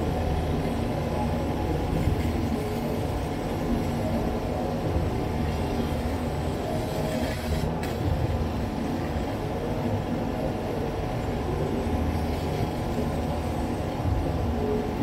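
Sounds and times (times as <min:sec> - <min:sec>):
laser cutting machine humming: 0:00.0 - 0:15.0.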